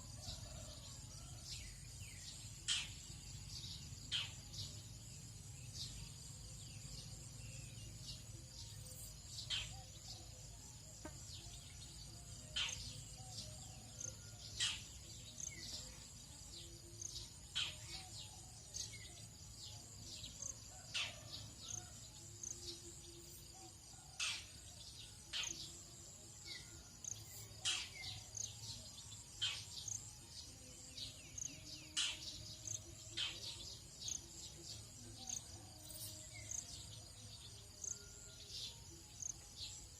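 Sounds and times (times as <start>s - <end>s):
sharp bird calls and chirps: 0.0s - 10.4s, 11.4s - 39.9s
high-pitched insect trill: 0.1s - 39.9s.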